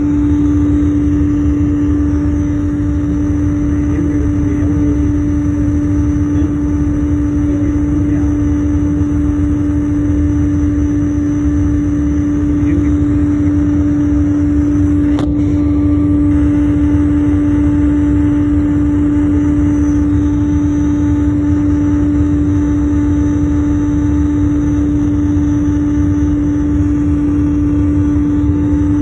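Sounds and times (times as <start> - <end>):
airliner engine drone in cabin: 0.0 - 29.0.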